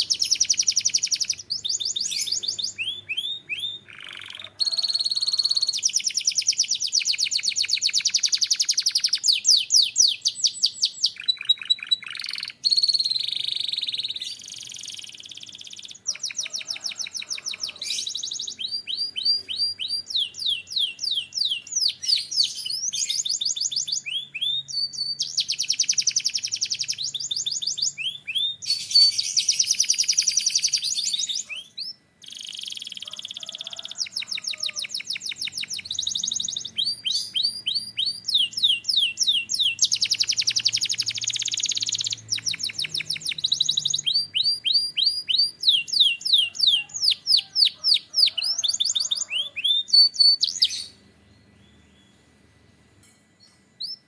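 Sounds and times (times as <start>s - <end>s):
canary singing: 0.0s - 52.4s, 53.0s - 54.0s.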